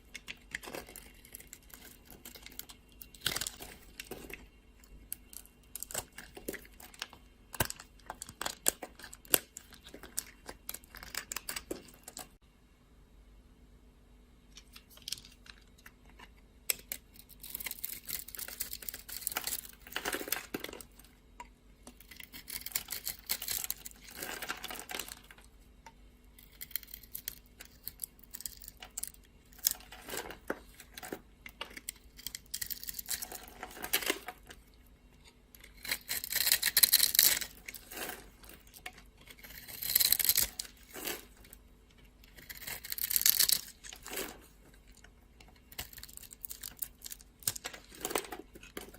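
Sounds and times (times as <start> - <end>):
knife scraping dry soap: 0.0 - 12.3, 16.2 - 20.9, 21.9 - 25.4, 26.3 - 48.9.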